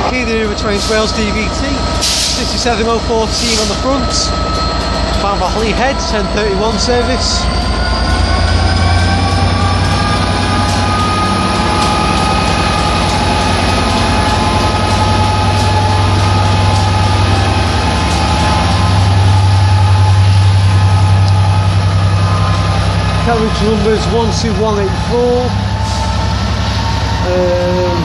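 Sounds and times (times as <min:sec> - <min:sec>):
diesel locomotive droning: 0:00.0 - 0:28.0
high whining tones: 0:00.0 - 0:28.0.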